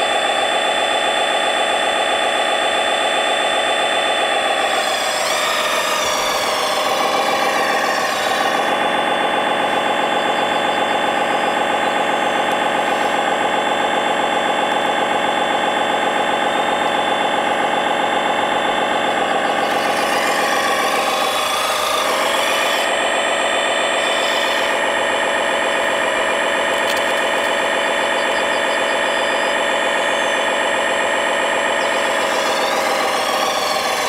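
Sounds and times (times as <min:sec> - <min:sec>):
simulated diesel engine idling: 0:00.0 - 0:34.0.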